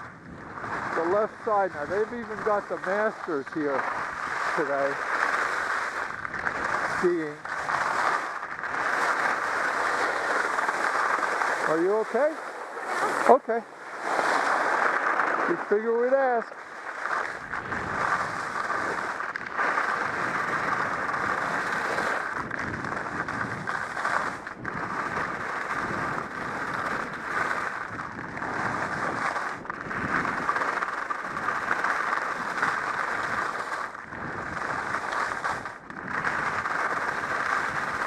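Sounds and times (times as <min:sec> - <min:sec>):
skis scraping over snow: 0:00.0 - 0:38.0.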